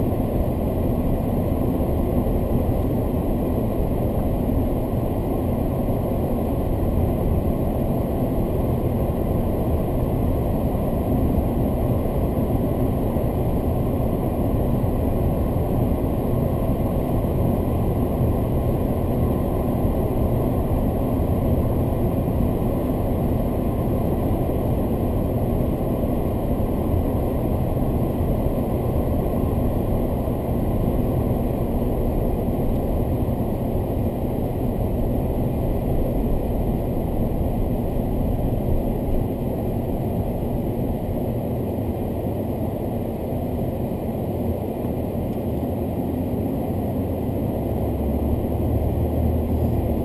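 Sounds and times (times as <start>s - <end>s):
engine and tyre rumble: 0.0s - 50.0s.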